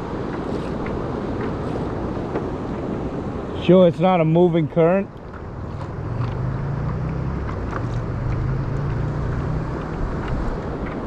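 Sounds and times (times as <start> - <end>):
choppy water: 0.0 - 11.0
wind: 0.0 - 11.0.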